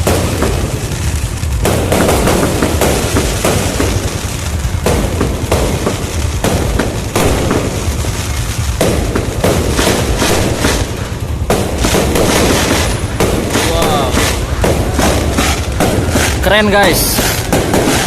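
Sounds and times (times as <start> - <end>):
fireworks bangs: 0.0 - 18.0
fireworks crackling and rumble: 0.0 - 18.0.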